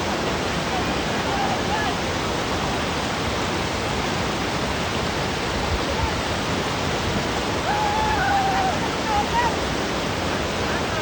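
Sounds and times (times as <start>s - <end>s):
whitewater rapids roaring: 0.0s - 11.0s.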